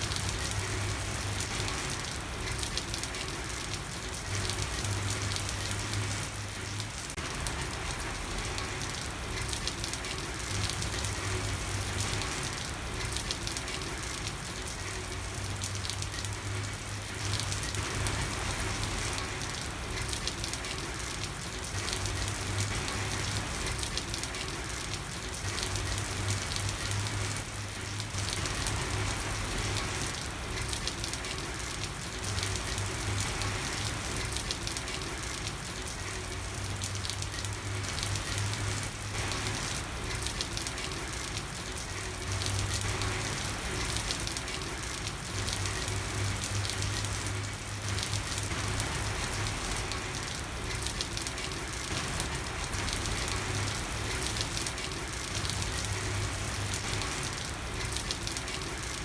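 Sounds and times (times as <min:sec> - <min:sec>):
heavy rain on a street: 0:00.0 - 0:59.0.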